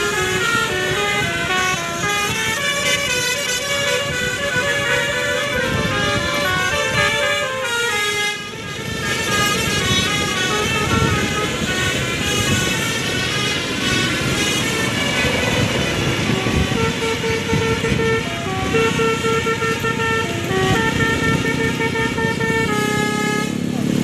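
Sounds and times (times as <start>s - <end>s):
multi-tone bus air horn melody: 0.0s - 23.8s.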